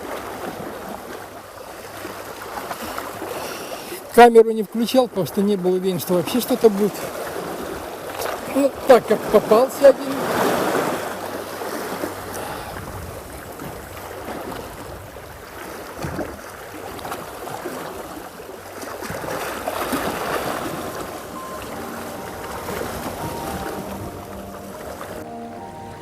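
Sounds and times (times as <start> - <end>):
sea surf washing onto shore: 4.8 - 26.0.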